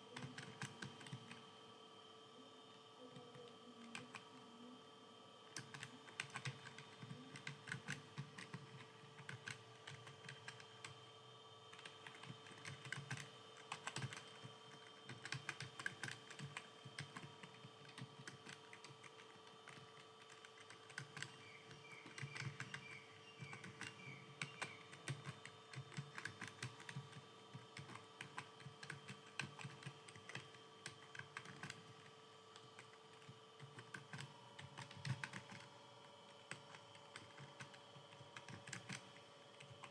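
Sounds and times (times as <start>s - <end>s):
faint steady hum: 0.0s - 39.9s
keyboard typing clicks: 0.1s - 1.4s, 5.6s - 11.0s, 11.7s - 35.7s, 36.3s - 39.9s.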